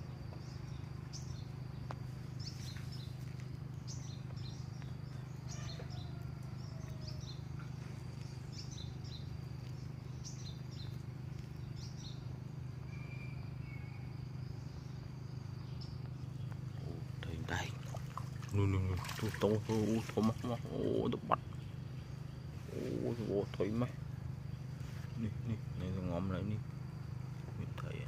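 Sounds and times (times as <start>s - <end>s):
birds chirping: 0.0s - 28.0s
insect whine: 0.0s - 28.0s
low background rumble: 0.0s - 28.0s.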